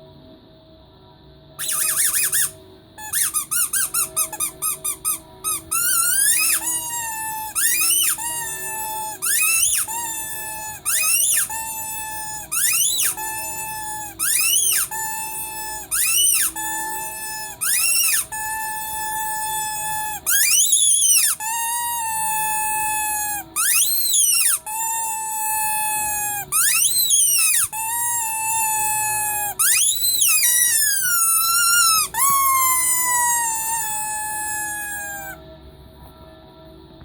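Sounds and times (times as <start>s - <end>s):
squeaky toy squeaking: 1.6s - 35.4s.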